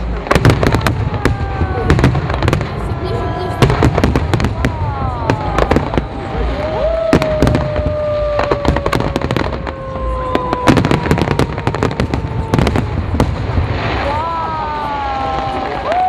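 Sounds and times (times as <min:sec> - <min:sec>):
descending firework whistle: 0:00.0 - 0:16.0
fireworks cracking and banging: 0:00.0 - 0:16.0.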